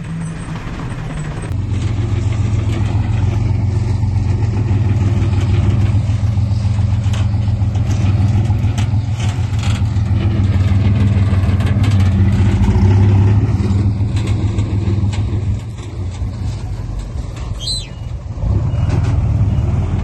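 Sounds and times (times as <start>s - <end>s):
heavy machinery diesel engine running: 0.0s - 20.0s.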